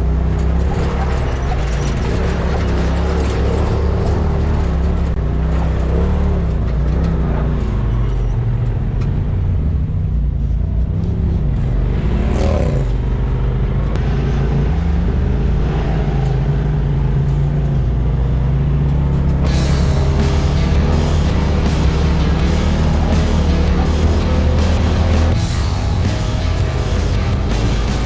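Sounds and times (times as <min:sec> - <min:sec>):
utility vehicle engine running: 0:00.0 - 0:28.0.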